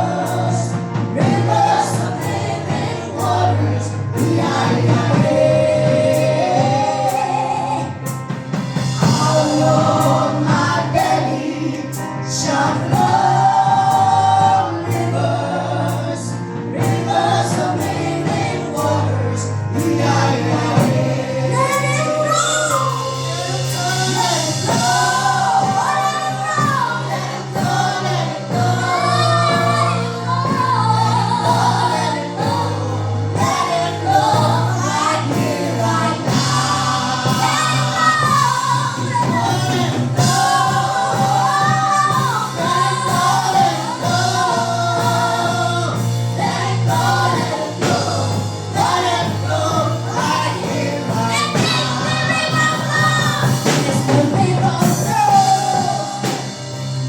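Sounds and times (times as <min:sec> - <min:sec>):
gospel choir singing: 0:00.0 - 0:57.0
instrumental backing with beat: 0:00.0 - 0:57.0.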